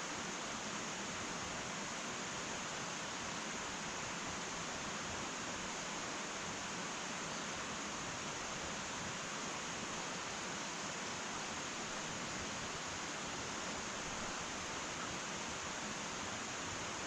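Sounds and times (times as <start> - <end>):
wood fire hissing: 0.0 - 17.0.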